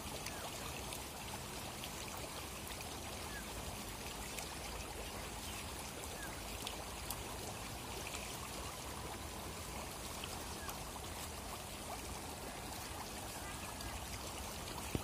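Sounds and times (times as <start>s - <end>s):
small splashes: 0.0s - 15.0s
water splashing and trickling: 0.0s - 15.0s.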